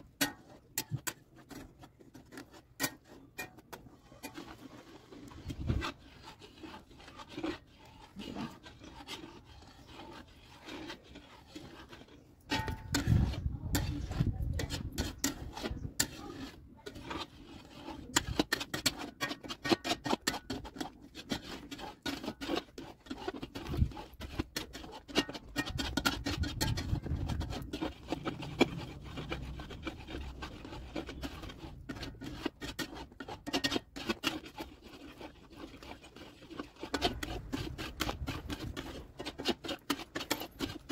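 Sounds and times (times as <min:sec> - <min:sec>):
metal spatula scraping metal pan: 0:00.0 - 0:40.9.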